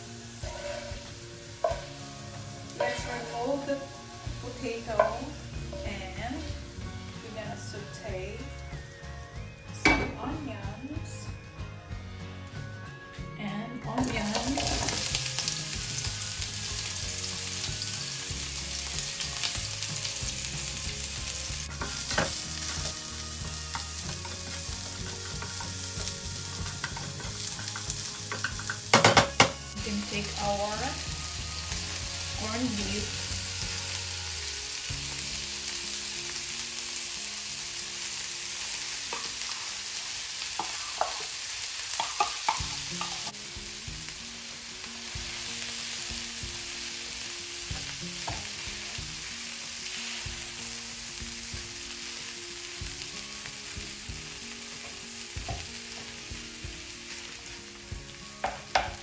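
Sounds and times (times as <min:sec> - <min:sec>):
food sizzling in frying pan: 0:00.0 - 0:13.0, 0:13.9 - 0:59.0.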